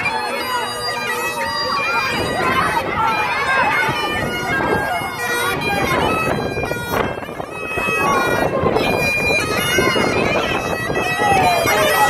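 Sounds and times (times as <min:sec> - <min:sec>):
bagpipes playing: 0:00.0 - 0:12.0.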